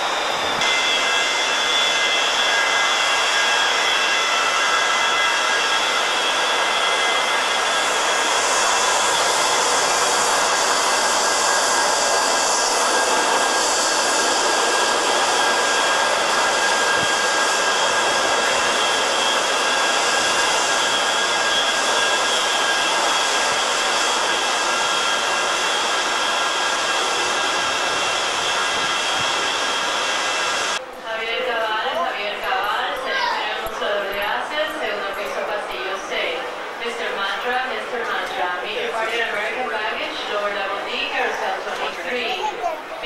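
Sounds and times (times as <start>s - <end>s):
jet engines whining: 0.0s - 43.0s.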